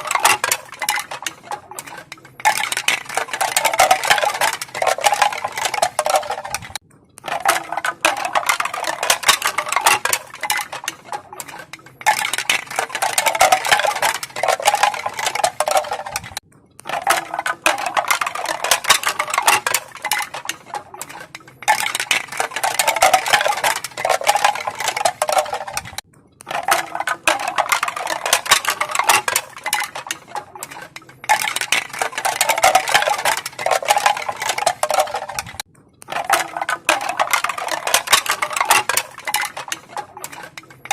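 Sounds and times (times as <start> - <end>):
bamboo pieces clacking: 0.0 - 40.9.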